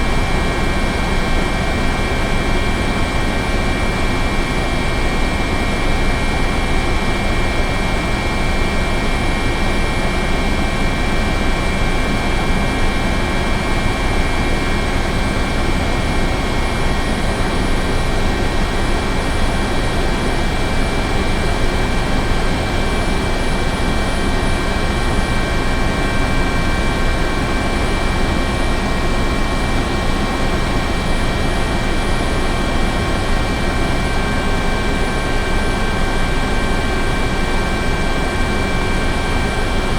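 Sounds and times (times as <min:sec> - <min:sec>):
helicopter rotor noise: 0:00.0 - 0:39.9
turbine whine: 0:00.0 - 0:39.9.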